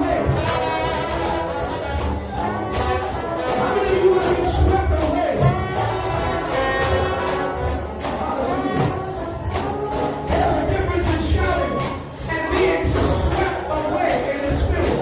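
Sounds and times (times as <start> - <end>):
brass horns playing gospel: 0.0 - 15.0
tambourine jingling: 0.0 - 15.0.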